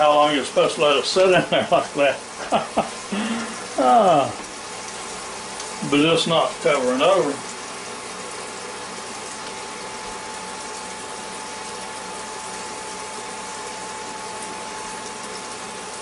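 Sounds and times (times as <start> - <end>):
egg sizzling and bubbling: 0.0 - 16.0.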